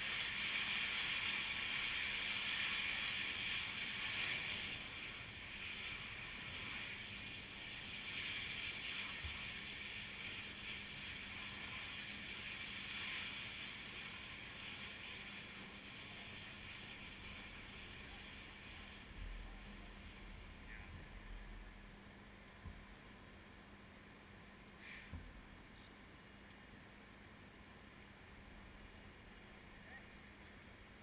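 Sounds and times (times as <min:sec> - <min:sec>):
fire burning with rushing noise: 0:00.0 - 0:25.7.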